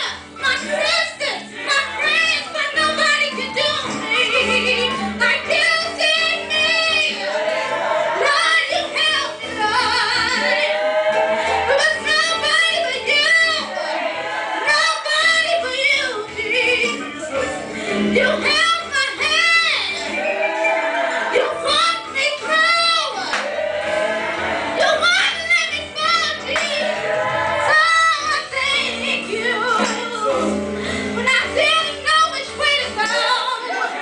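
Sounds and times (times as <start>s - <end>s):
woman singing gospel over loudspeaker: 0.0s - 7.4s, 8.2s - 10.8s, 11.6s - 14.0s, 14.6s - 17.3s, 17.9s - 20.1s, 21.3s - 23.5s, 24.8s - 30.5s, 31.2s - 34.0s.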